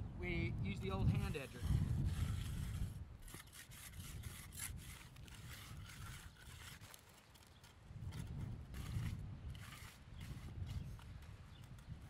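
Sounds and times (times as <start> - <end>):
hand edger scraping wet concrete: 1.0 - 12.0.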